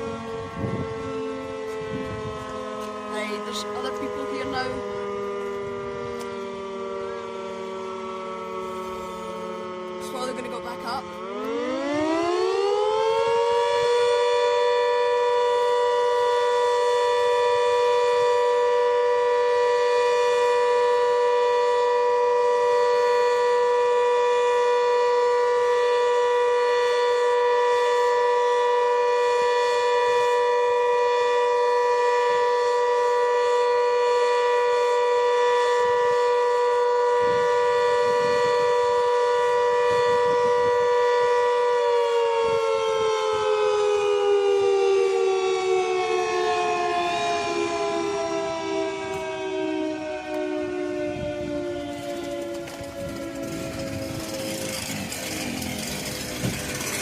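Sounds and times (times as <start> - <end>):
motor siren wailing: 0.0 - 57.0.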